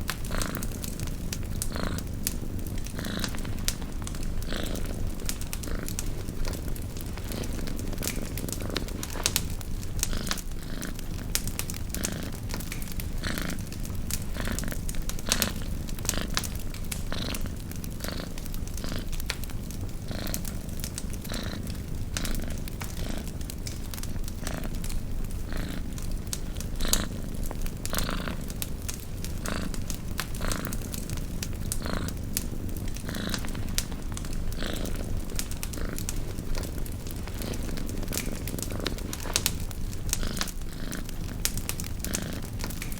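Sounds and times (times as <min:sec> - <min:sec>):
campfire crackling and popping: 0:00.0 - 0:42.9
cat purring: 0:00.0 - 0:42.9.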